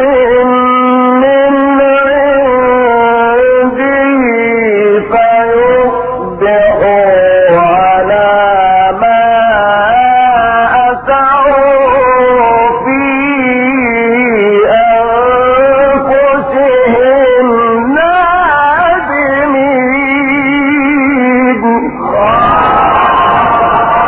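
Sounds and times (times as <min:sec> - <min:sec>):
man chanting recitation: 0:00.0 - 0:22.2.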